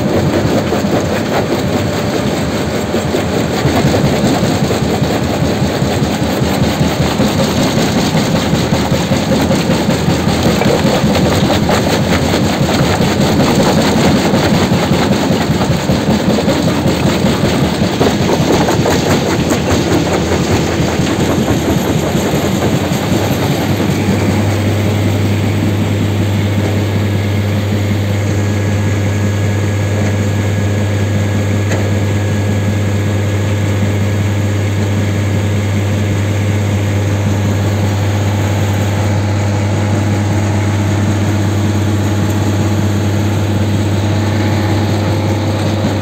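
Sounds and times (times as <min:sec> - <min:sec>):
machinery rattle: 0:00.0 - 0:29.6, 0:35.1 - 0:46.0
rubble crusher machinery humming: 0:00.0 - 0:46.0.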